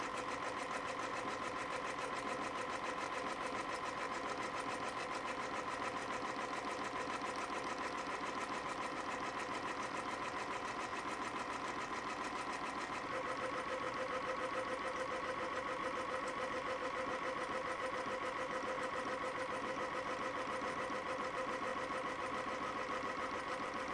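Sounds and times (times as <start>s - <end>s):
constant machine hum: 0.0s - 23.9s
spring coiling machine running: 0.0s - 23.9s.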